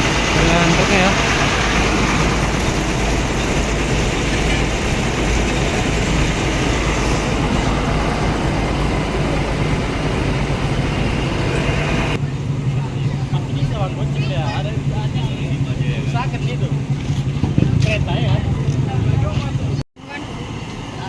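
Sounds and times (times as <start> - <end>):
heavy vehicle engine rumbling: 0.0 - 21.0.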